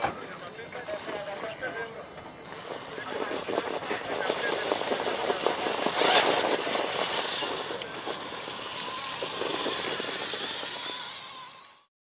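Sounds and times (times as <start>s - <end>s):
toy car motor whining: 0.2s - 11.9s.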